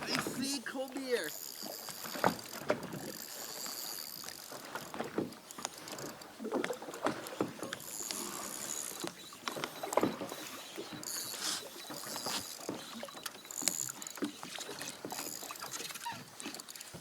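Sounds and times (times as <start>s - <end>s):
light water noise: 0.0s - 17.0s.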